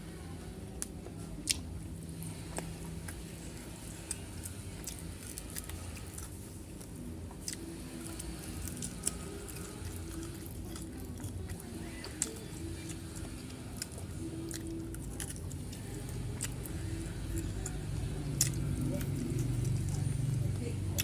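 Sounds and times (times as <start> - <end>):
chewing and wet mouth sounds: 0.8 - 21.0.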